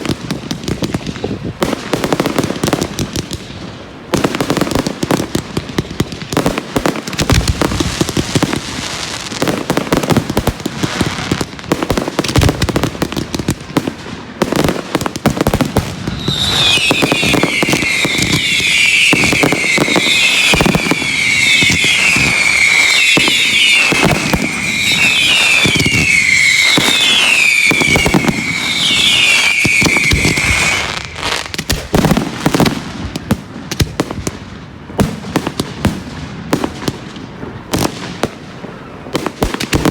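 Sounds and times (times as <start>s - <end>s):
fireworks bangs and crackles: 0.0s - 39.9s
shrill whistling fireworks: 0.0s - 39.9s.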